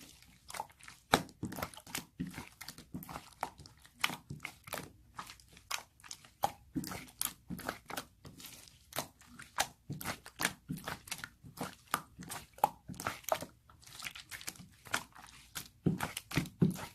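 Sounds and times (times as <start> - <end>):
slime squished by hand: 0.0 - 16.9.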